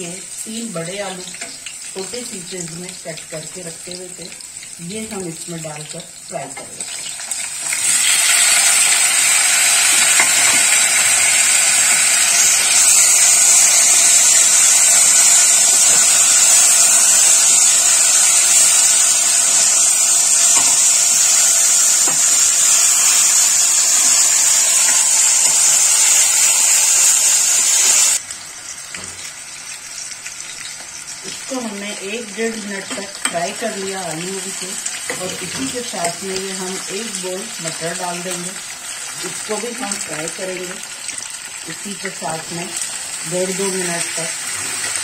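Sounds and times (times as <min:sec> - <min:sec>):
potatoes sizzling in hot oil: 0:00.0 - 0:45.0.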